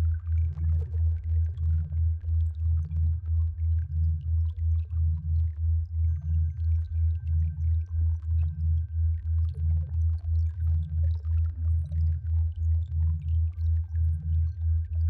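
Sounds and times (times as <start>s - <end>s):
deep pulsing hum: 0.0s - 15.0s.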